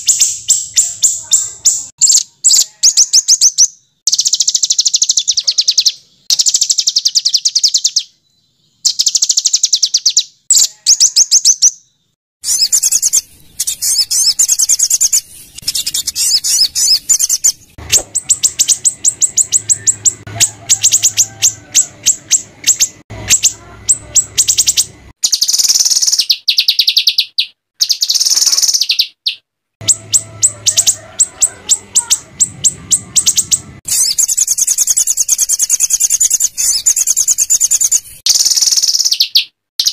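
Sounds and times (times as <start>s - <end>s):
songbirds chattering trills: 0.0s - 39.9s.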